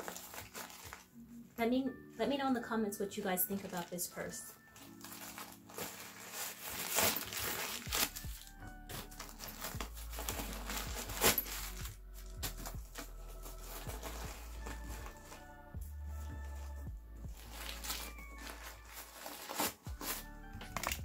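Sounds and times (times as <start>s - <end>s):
background music: 0.0s - 21.0s
canvas bag rustling and crinkling: 0.0s - 21.0s.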